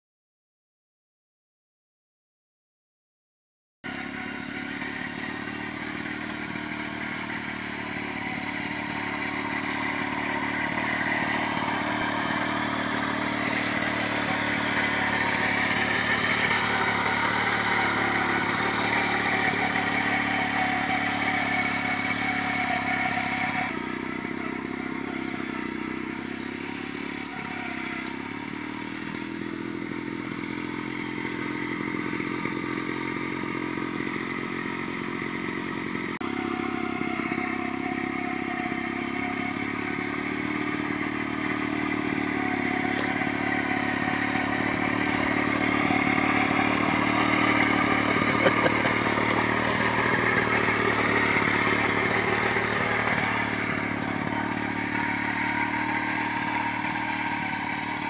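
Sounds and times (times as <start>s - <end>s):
small tiller engine running: 3.8s - 58.0s.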